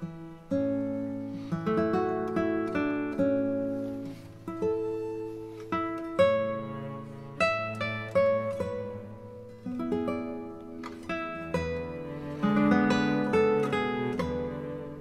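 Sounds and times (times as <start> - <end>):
acoustic guitar slow melody: 0.0 - 15.0.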